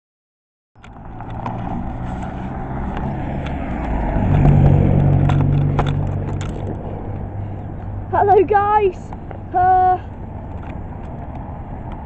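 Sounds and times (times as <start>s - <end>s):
vehicle engine running: 0.8s - 12.0s.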